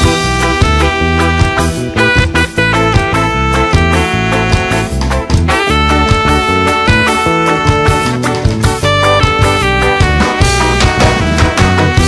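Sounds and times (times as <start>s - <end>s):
instrumental ska band music: 0.0s - 12.0s.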